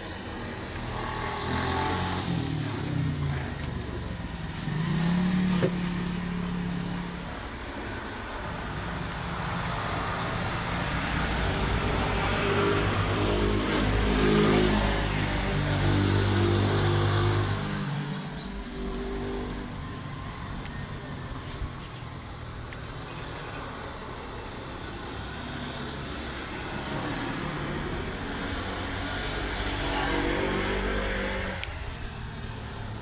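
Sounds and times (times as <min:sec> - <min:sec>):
traffic engines running: 0:00.0 - 0:33.0.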